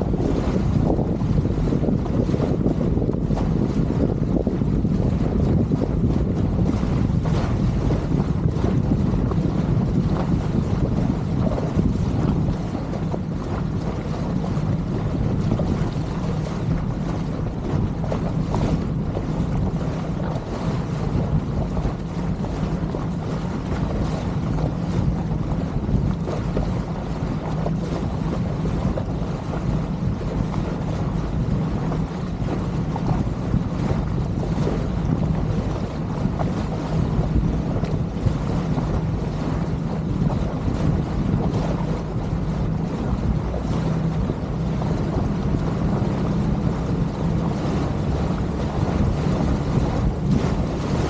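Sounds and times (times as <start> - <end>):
motorboat engine running: 0.0 - 51.0
water rushing past hull: 0.0 - 51.0
wind buffeting microphone: 0.0 - 51.0.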